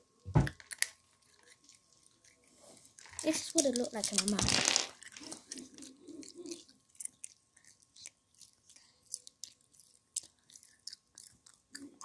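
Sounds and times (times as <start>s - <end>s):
child chewing bubblegum: 0.0s - 4.2s, 4.9s - 12.0s.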